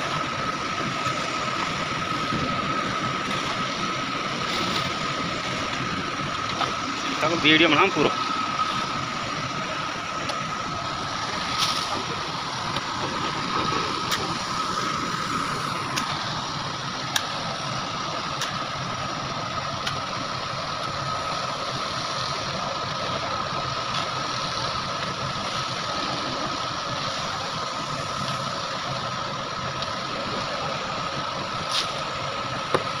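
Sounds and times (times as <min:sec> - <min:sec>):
high whine: 0:00.0 - 0:33.0
motor drone: 0:00.0 - 0:33.0.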